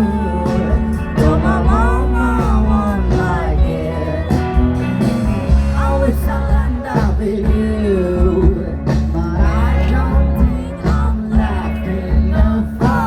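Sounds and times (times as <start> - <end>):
person singing: 0.0 - 13.0
rock band music: 0.0 - 13.0.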